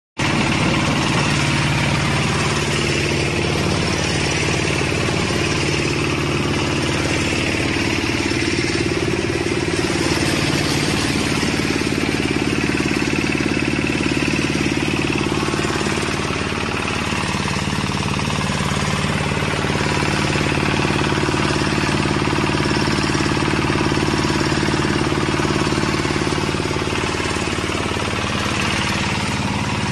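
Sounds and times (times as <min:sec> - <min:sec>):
grain hissing through mill: 0:00.2 - 0:29.9
rice milling machine humming: 0:00.2 - 0:29.9.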